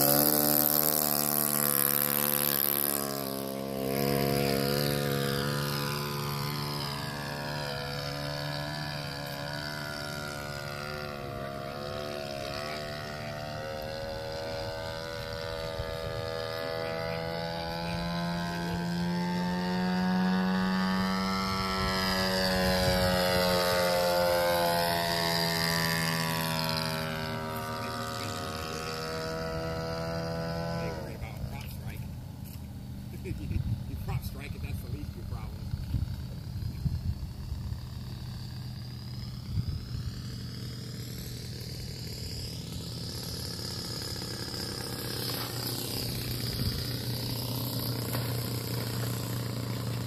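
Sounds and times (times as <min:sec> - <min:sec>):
model plane motor whine: 0:00.0 - 0:50.0.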